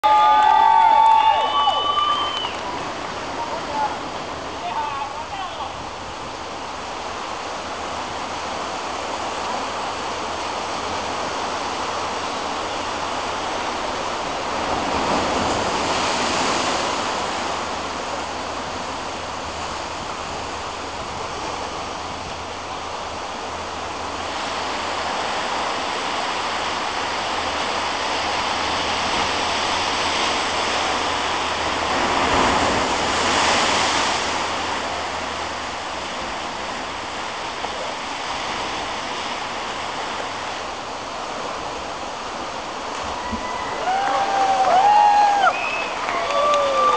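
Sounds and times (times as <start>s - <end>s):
ocean surf washing against rocks: 0.1s - 46.9s.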